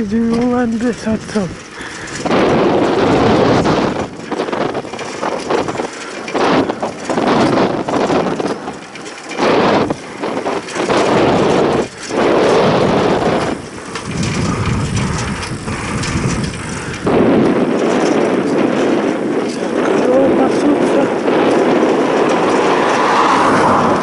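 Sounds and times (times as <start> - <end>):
wind gusts buffeting microphone: 0.0 - 24.0.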